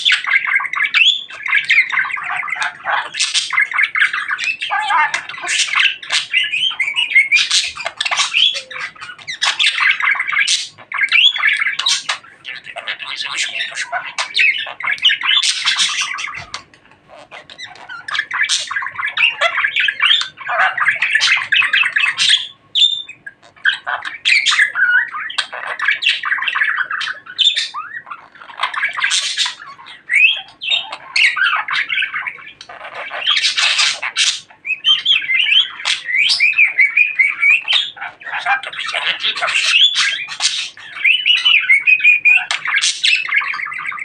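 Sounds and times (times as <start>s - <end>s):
budgerigar chattering and warbling: 0.0s - 44.0s.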